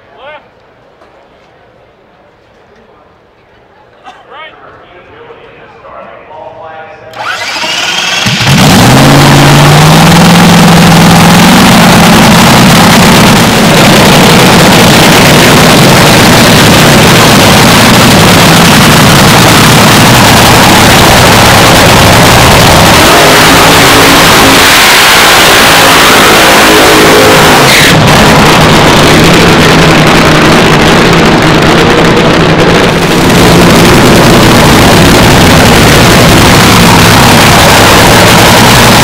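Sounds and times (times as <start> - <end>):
drag car engine revving: 7.1 - 39.0
drag car engine idling roughly: 7.2 - 39.0.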